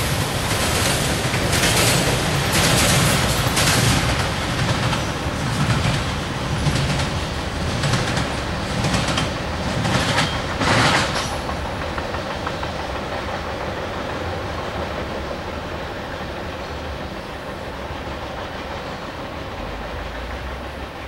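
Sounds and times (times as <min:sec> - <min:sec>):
train rumble: 0:00.0 - 0:21.0
train wheel clatter: 0:00.0 - 0:21.0.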